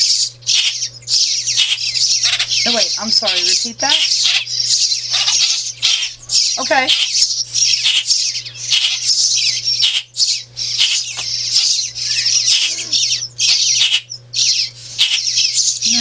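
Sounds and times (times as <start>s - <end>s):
baby birds cheeping: 0.0s - 16.0s
low steady hum: 0.0s - 16.0s.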